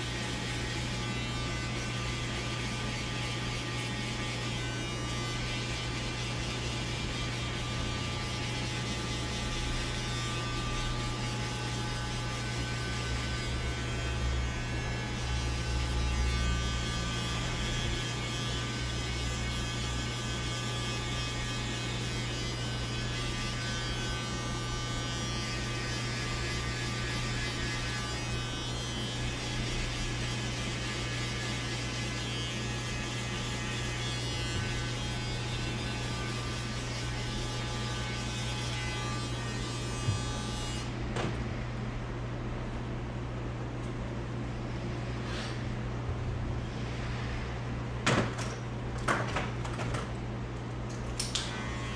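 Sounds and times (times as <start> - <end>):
electric hair clippers humming: 0.0 - 41.4, 50.9 - 51.9.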